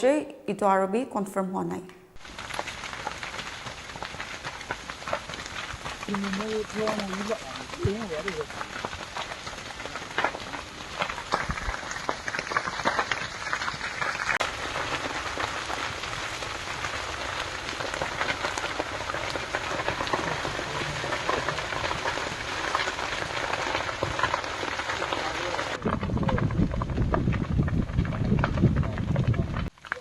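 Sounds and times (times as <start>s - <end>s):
fire crackling: 2.1s - 30.0s.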